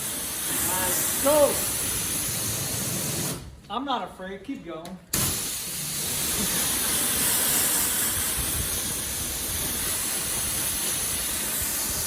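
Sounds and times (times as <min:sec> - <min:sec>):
pressure washer spraying: 0:00.0 - 0:03.5, 0:05.1 - 0:12.0.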